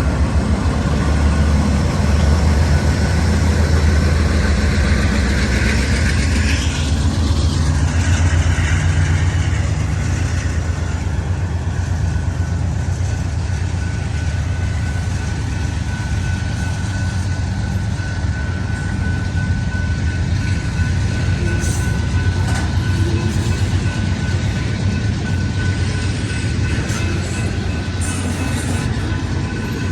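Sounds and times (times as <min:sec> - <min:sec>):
freight train wheels rumbling on rails: 0:00.0 - 0:29.9.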